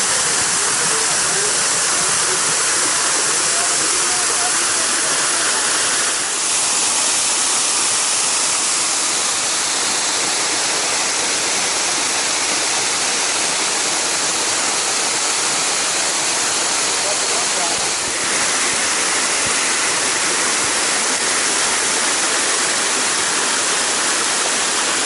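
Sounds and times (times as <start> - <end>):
rushing river water: 0.0 - 25.0.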